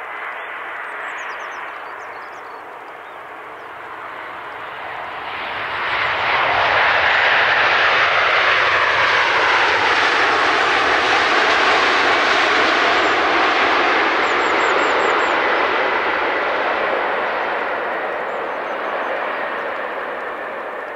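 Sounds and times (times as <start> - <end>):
jet airliner flying past: 0.0 - 20.9.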